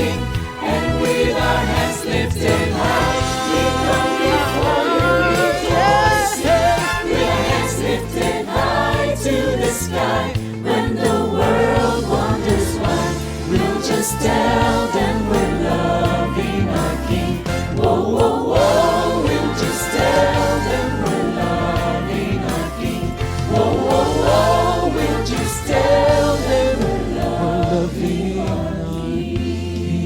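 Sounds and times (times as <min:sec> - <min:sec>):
choir singing with instruments: 0:00.0 - 0:30.0.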